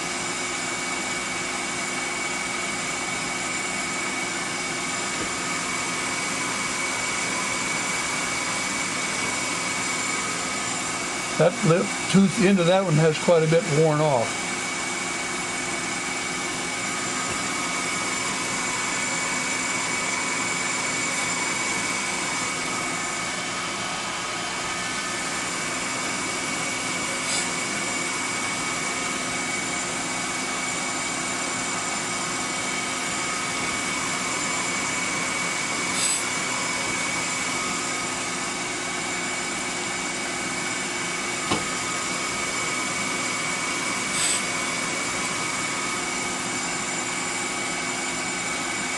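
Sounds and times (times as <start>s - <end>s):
grinding wheel whining: 0.0s - 48.9s.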